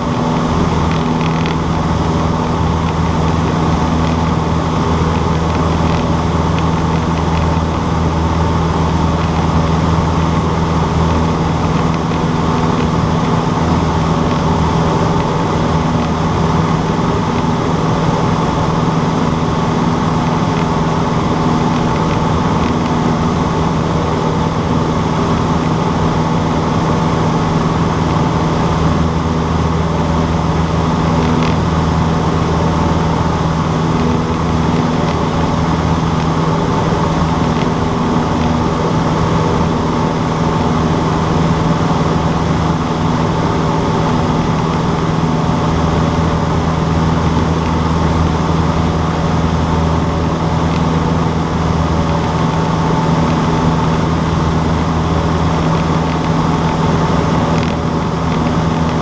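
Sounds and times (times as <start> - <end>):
small plane engine droning: 0.0 - 59.0.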